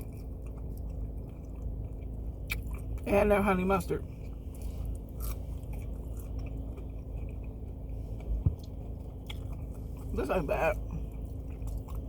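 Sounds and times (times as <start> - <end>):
chewing and biting food: 0.0 - 12.0
steady low hum: 0.0 - 12.0.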